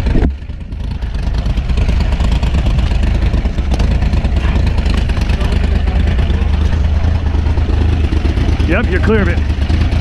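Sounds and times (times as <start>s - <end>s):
buggy engine running steadily: 0.0s - 10.0s.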